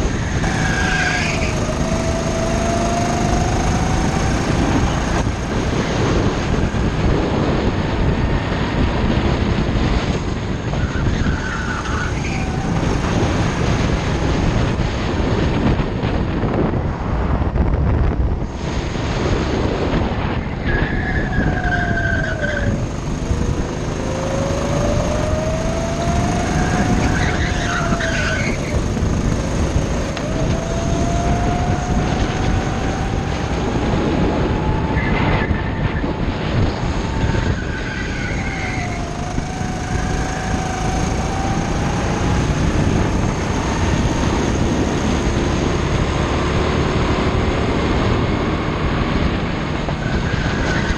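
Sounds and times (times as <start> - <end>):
go-kart engine revving: 0.0 - 15.5, 18.4 - 50.9
road and wind noise: 0.0 - 50.9.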